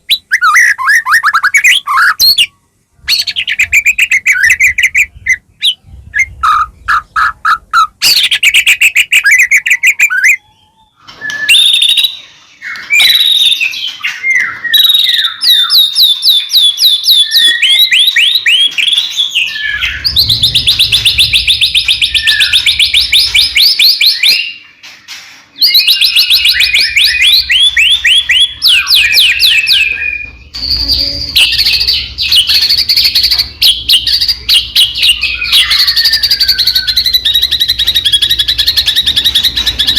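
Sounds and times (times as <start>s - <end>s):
songbird singing trills: 0.0s - 24.8s, 25.6s - 39.9s.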